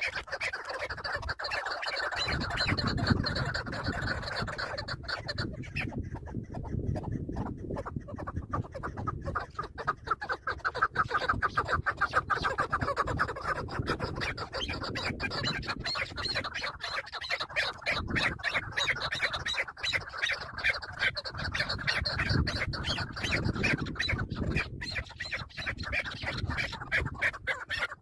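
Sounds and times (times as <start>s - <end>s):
partridge clucking calls: 0.0s - 28.0s.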